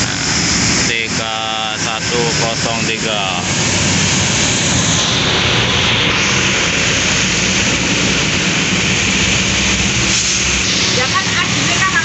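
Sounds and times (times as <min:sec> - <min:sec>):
rain hissing: 0:00.0 - 0:12.0
vehicle engines rumbling: 0:00.0 - 0:12.0.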